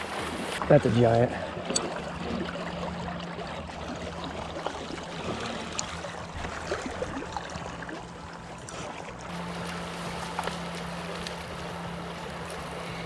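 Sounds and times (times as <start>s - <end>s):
creek flowing: 0.0s - 13.0s.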